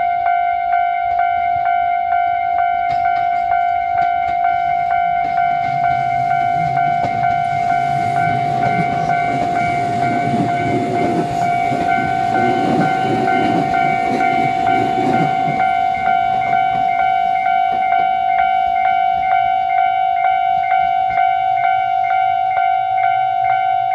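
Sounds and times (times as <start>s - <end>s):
level crossing alarm ringing: 0.0s - 23.9s
train passing with rumble: 1.1s - 23.9s
train wheels clicking on rail joints: 2.6s - 22.3s.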